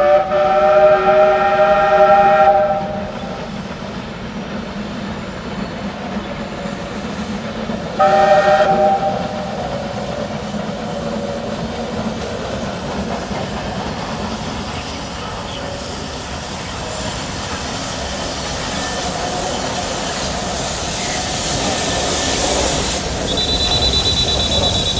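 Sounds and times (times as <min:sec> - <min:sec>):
loud hiss of steam: 0:00.0 - 0:24.9
steam locomotive rumbling: 0:00.0 - 0:24.9.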